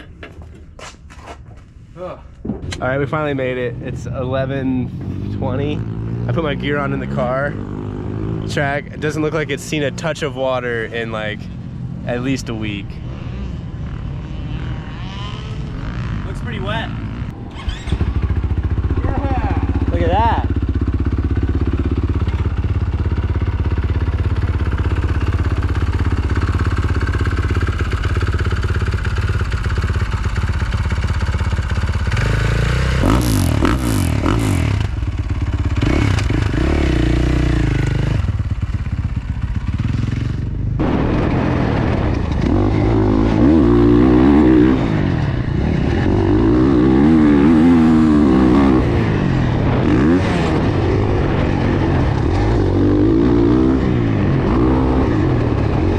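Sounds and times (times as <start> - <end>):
motocross bike engine revving: 3.4 - 55.9.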